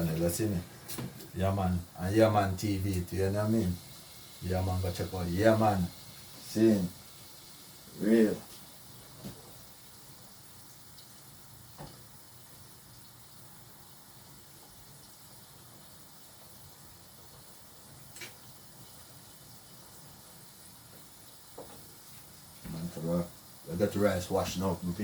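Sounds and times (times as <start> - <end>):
food cooking hiss: 0.0 - 25.0.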